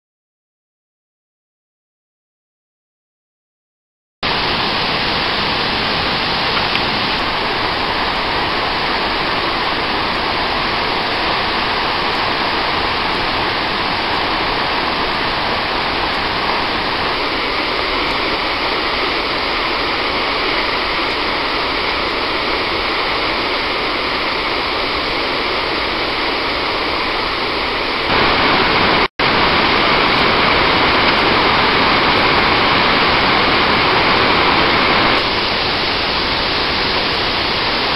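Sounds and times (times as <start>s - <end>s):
waterfall and river rushing: 4.2s - 37.9s.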